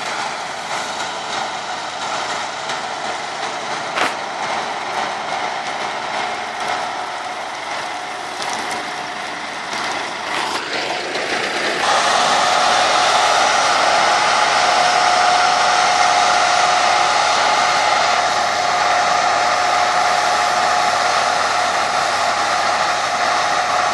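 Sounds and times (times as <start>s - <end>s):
combine harvester whirring: 0.0s - 23.9s.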